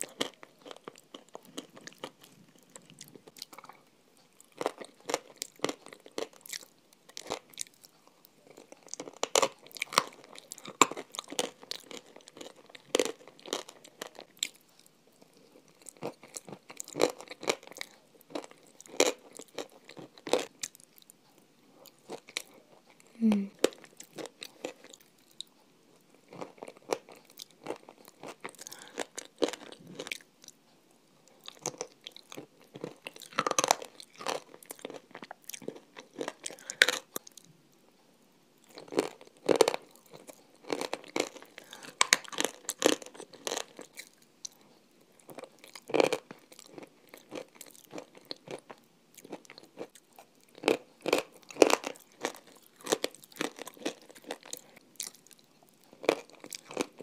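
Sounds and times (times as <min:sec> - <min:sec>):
crunchy eating of frozen ice cream: 0:00.0 - 0:21.1, 0:21.7 - 0:30.6, 0:31.3 - 0:37.5, 0:38.6 - 0:57.0.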